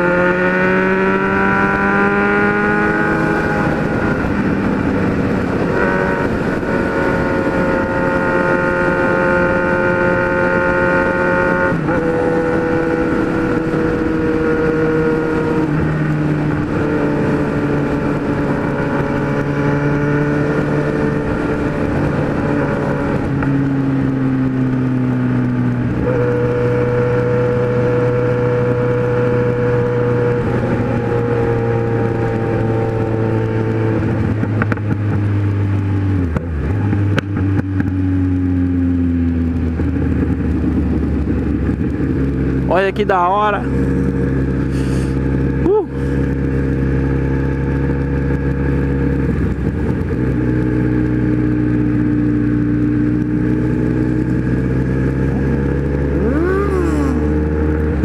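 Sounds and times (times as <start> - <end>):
motorcycle engine running at speed: 0.0 - 58.0.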